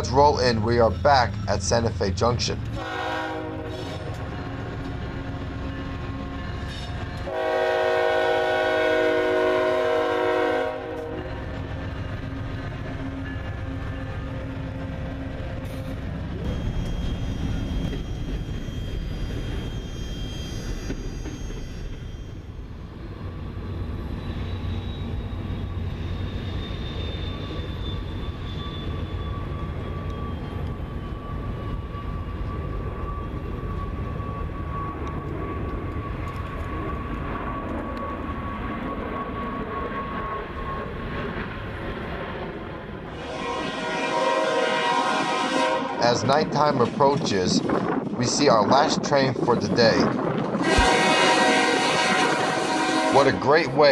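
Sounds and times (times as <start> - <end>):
freight train rolling past: 0.0 - 53.9.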